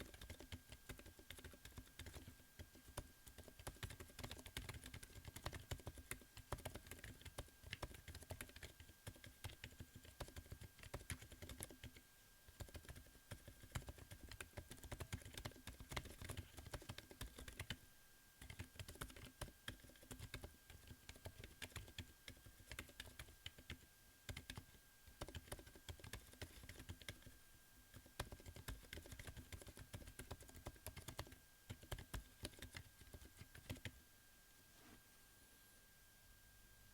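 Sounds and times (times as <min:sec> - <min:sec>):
soft muted keyboard typing: 0:00.0 - 0:17.8, 0:18.4 - 0:34.0.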